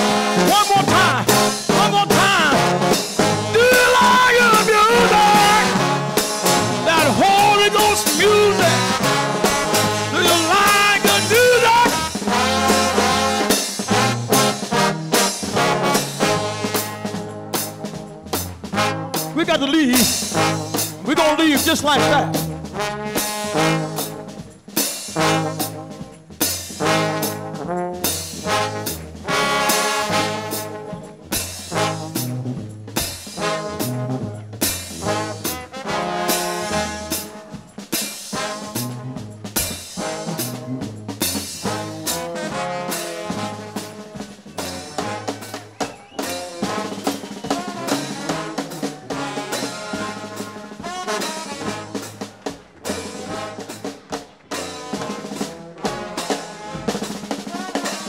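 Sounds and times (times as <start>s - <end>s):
bass line: 0.0s - 24.4s, 26.7s - 37.5s, 38.4s - 50.7s
drums: 0.0s - 58.0s
trombone band playing gospel: 0.0s - 58.0s.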